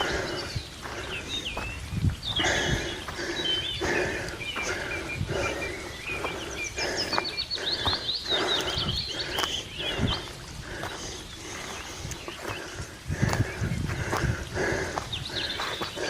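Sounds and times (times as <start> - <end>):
person breathing hard: 0.0 - 1.7, 2.3 - 16.0
small birds chirping: 0.0 - 16.0.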